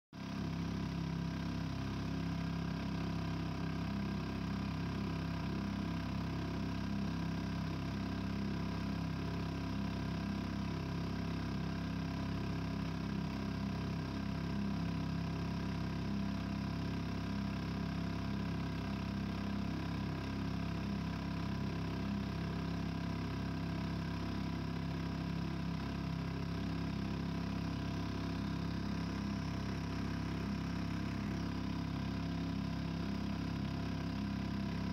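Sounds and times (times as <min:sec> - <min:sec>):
outboard motor running: 0:00.2 - 0:34.9.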